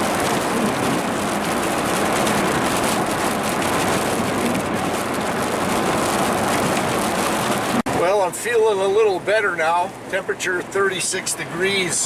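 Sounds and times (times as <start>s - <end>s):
tyres hissing on wet road: 0.0s - 8.2s, 9.6s - 12.0s
rain: 0.0s - 12.0s.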